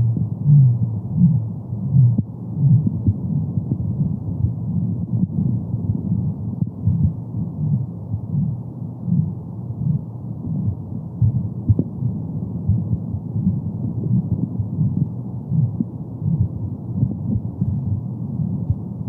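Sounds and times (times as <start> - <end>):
heartbeat pulsing: 0.0 - 12.0, 12.6 - 19.0.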